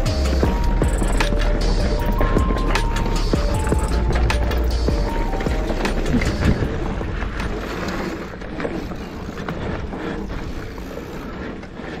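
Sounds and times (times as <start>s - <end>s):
bike clicks and rattles: 0.0s - 12.0s
bike tyres rumbling on trail: 0.0s - 12.0s
wind on microphone: 0.0s - 12.0s.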